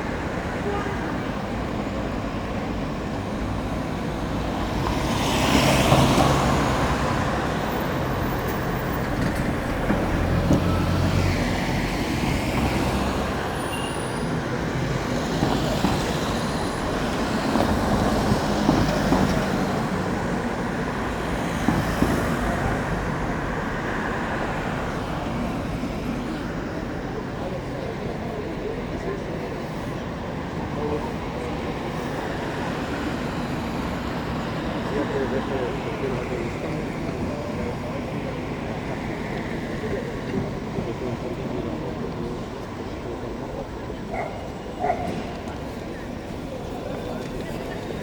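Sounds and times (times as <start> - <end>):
vehicles passing on street: 0.0 - 48.0.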